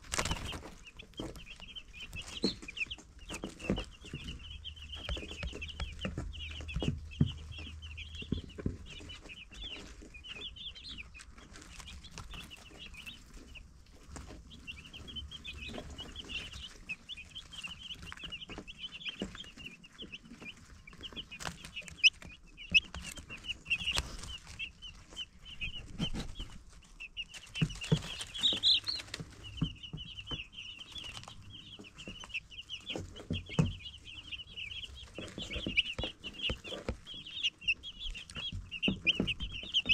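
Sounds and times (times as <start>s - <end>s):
baby chicks peeping: 0.0s - 39.9s
sharp taps and knocks: 0.1s - 26.6s, 27.4s - 39.9s.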